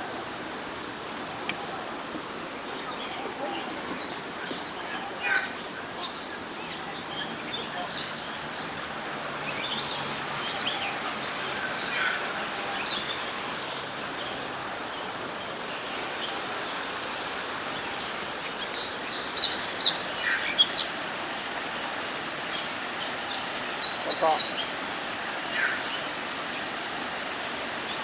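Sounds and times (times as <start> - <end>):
steady background hiss: 0.0 - 28.0
birds chirping: 2.5 - 28.0.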